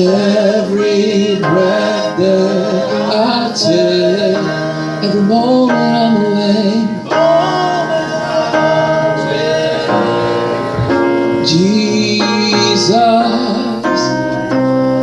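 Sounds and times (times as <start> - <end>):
people singing worship song: 0.0 - 14.2
instrumental accompaniment: 0.0 - 15.0.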